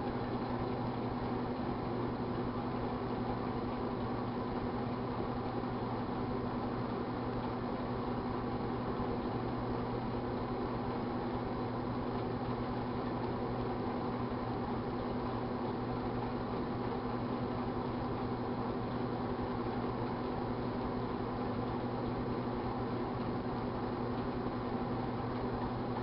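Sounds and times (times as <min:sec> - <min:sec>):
microwave oven humming: 0:00.0 - 0:26.0.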